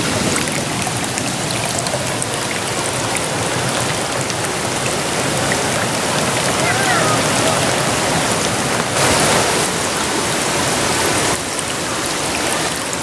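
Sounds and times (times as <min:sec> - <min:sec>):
fountain water splashing down cascades: 0:00.0 - 0:13.0.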